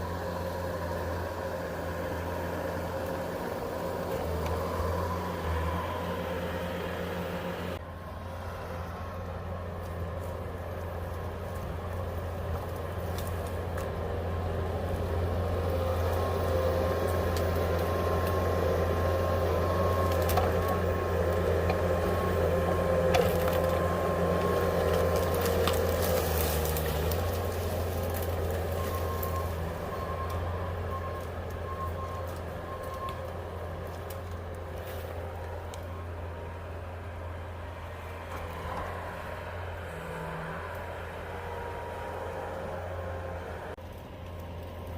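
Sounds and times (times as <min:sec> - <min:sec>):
engine droning and whining: 0:00.0 - 0:44.9.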